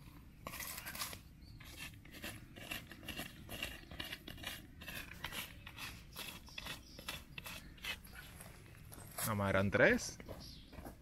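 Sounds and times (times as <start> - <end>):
scraping and crunching strokes: 0.0 - 9.4.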